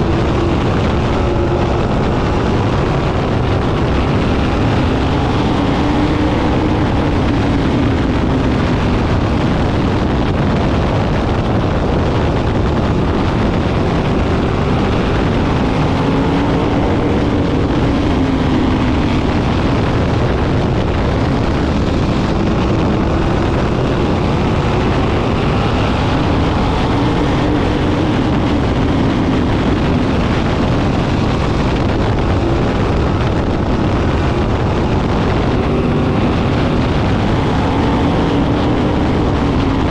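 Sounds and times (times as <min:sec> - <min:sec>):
race car engines passing: 0:00.0 - 0:39.9
wind on microphone: 0:00.0 - 0:39.9.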